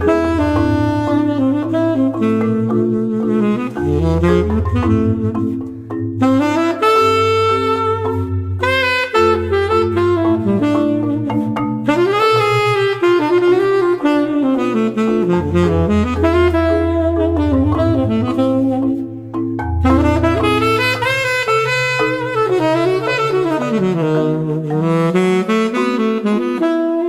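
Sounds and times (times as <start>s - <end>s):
sustained bass notes: 0.0s - 25.4s
saxophone melody: 0.0s - 27.0s.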